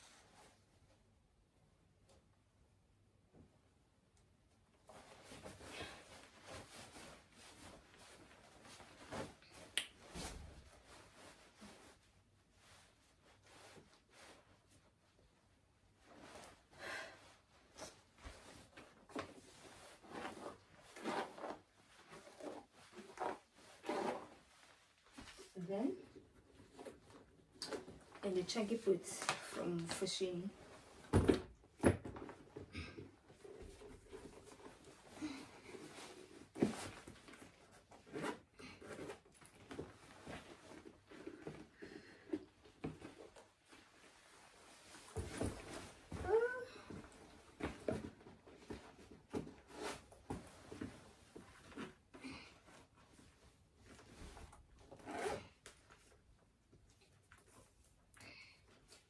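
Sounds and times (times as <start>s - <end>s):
clothing rustling: 4.7s - 58.1s.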